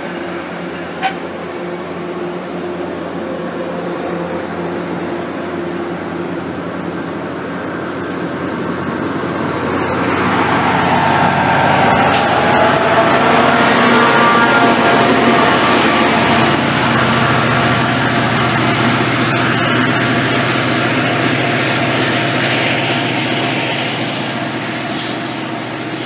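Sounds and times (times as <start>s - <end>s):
diesel locomotive engine: 0.0s - 26.0s
train rolling past: 0.0s - 26.0s.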